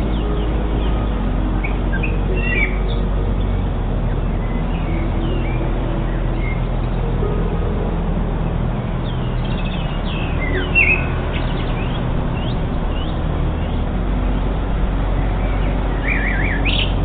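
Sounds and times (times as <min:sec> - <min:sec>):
birds chirping: 0:00.0 - 0:17.0
low rumbling hum: 0:00.0 - 0:17.0.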